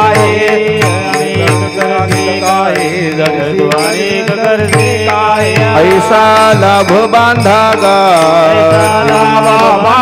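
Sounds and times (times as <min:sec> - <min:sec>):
drum beat: 0:00.0 - 0:10.0
voices singing a refrain: 0:00.0 - 0:10.0.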